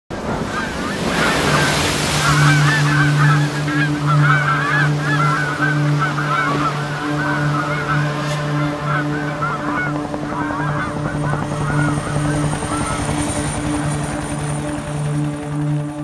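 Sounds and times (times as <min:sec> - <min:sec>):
ocean surf washing: 0:00.1 - 0:15.8
low pulsing hum: 0:00.2 - 0:16.0
flock of birds calling: 0:00.4 - 0:14.6.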